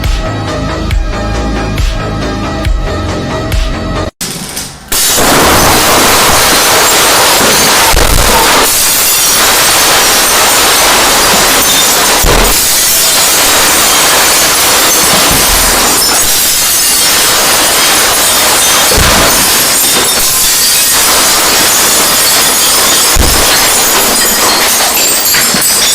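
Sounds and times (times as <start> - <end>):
harsh distorted noise blaring: 4.2 - 25.9.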